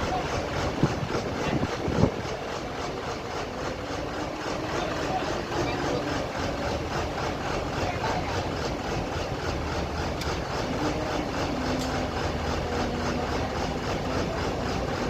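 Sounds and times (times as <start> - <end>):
diesel engine pulsing: 0.0 - 15.0.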